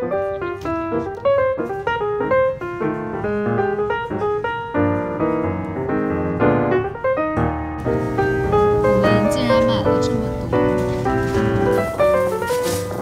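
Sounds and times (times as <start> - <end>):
solo piano run: 0.0 - 13.0.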